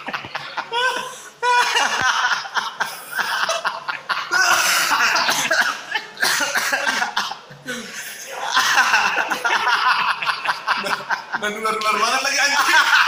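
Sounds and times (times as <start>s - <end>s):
men laughing: 0.0s - 13.0s.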